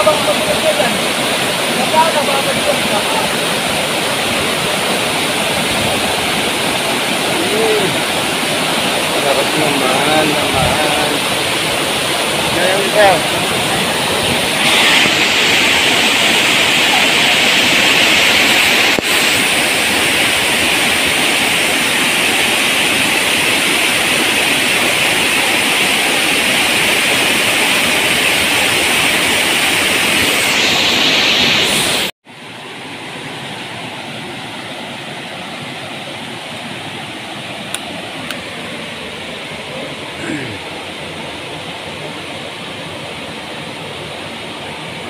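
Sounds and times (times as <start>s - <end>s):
distant falls rushing: 0.0s - 45.0s
waterfall rushing over rocks: 0.0s - 45.0s.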